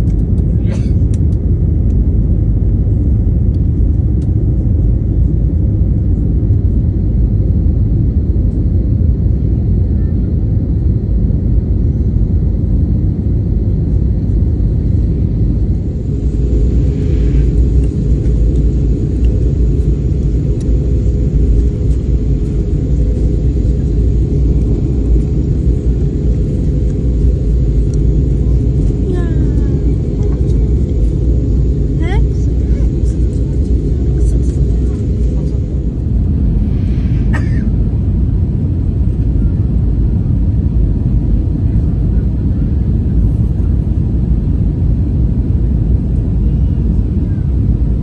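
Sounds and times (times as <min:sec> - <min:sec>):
jet engines rumbling in cabin: 0:00.0 - 0:48.0
steady hum: 0:00.0 - 0:48.0.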